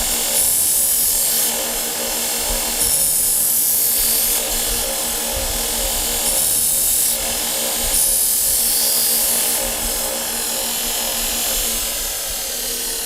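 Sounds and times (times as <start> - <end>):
belt sharpener motor hum: 0.0 - 13.0.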